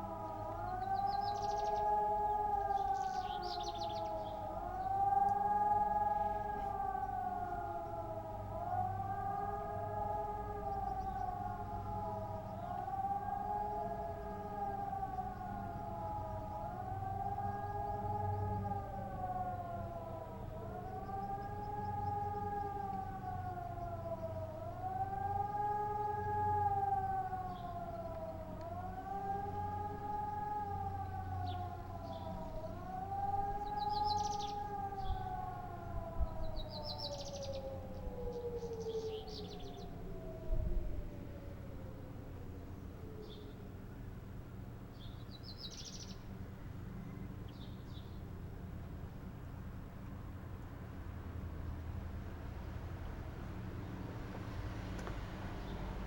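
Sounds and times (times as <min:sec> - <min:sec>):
air-raid sirens wailing: 0:00.0 - 0:56.0.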